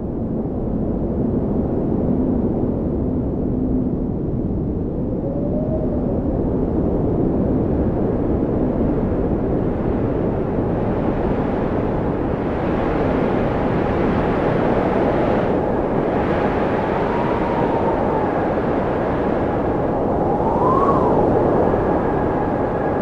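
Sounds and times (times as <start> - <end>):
blizzard wind blowing hard: 0.0 - 23.0
whistling wind howl: 0.0 - 23.0.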